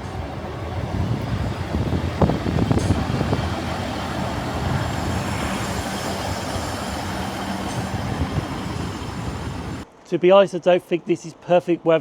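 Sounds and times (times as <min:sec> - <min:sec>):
train rumbling: 0:00.0 - 0:09.9.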